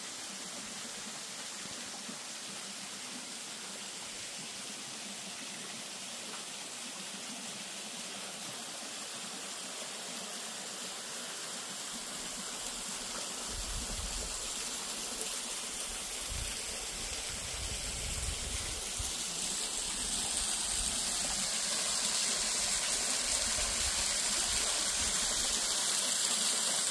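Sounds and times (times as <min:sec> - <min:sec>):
stream rushing over rocks: 0:00.0 - 0:26.9.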